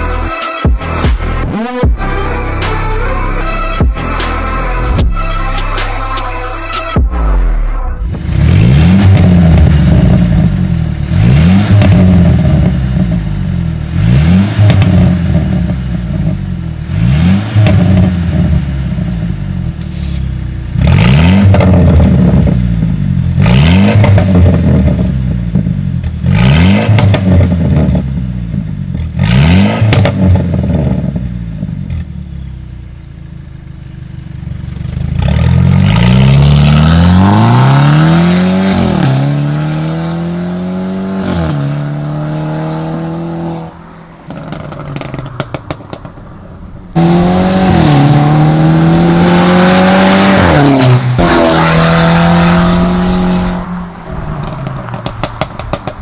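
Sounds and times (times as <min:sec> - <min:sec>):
car engine revving: 0:00.0 - 0:56.0
exhaust crackles: 0:01.2 - 0:56.0.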